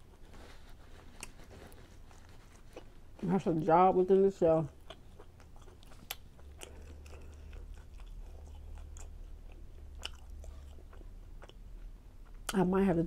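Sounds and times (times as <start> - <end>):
chewing food: 0.0 - 12.6
steady low hum: 0.0 - 13.0.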